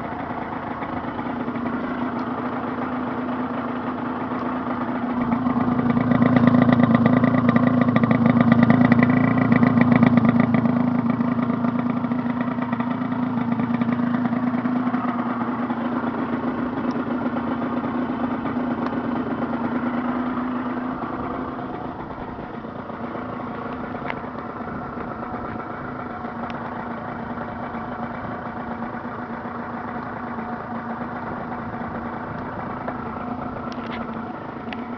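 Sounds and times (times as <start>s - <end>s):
two-stroke engine running: 0.0s - 34.9s.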